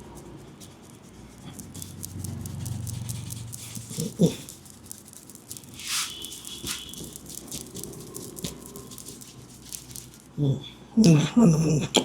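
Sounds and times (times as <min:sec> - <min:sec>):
hands rubbing head and neck: 0:00.0 - 0:10.3.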